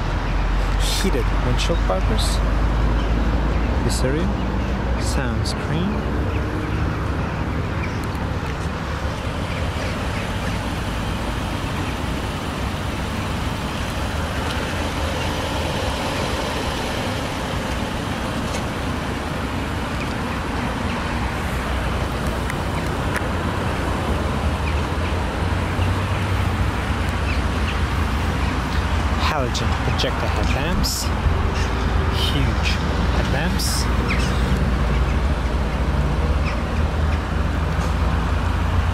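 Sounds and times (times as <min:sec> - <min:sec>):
vehicle rumble: 0:00.0 - 0:38.9.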